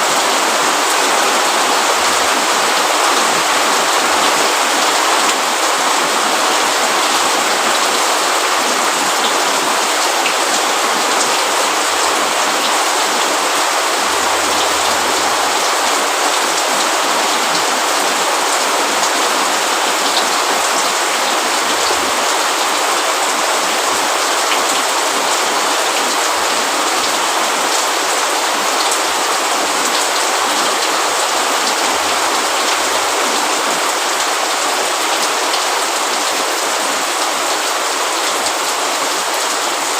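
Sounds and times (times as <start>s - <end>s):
rain pattering on roof and leaves: 0.0s - 39.9s.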